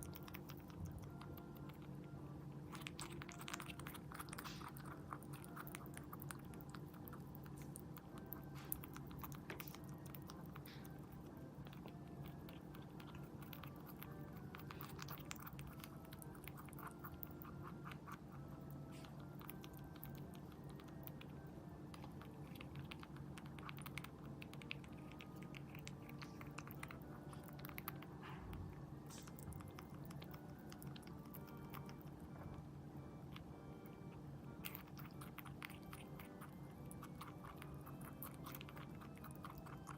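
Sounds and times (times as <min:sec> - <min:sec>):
rabbit chewing: 0:00.0 - 0:39.9.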